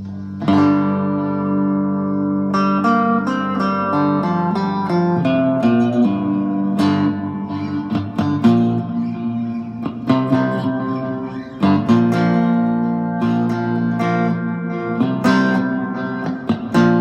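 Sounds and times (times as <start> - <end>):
guitar picked notes: 0.0 - 17.0
strummed guitar chords: 0.0 - 17.0.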